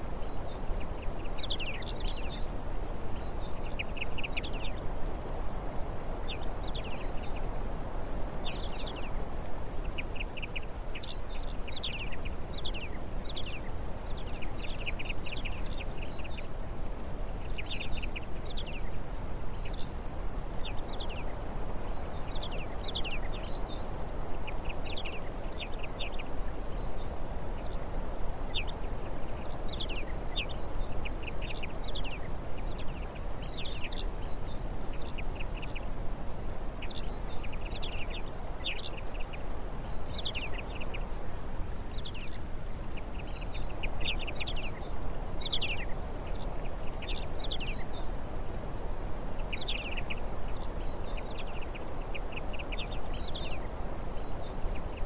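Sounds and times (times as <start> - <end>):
low background rush: 0.0 - 55.0
small songbirds chirping: 0.0 - 55.0.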